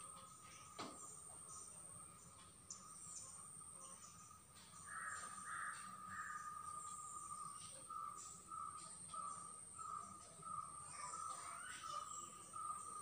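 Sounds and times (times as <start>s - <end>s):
faint scattered chirping: 0.0s - 13.0s.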